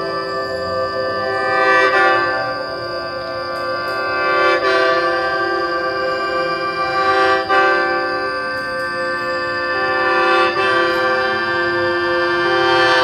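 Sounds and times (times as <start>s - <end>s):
music of long held chords: 0.0s - 13.0s.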